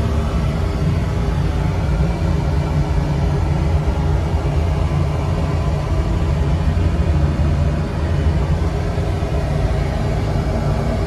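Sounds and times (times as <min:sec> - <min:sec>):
oil burner rumbling: 0:00.0 - 0:11.0.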